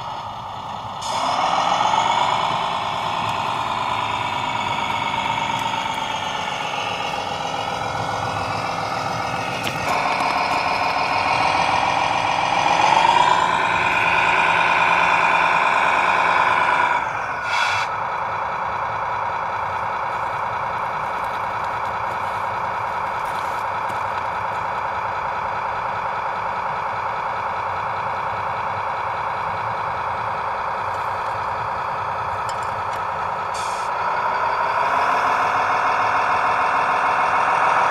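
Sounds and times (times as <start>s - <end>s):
model truck motor whining: 0.1s - 37.9s.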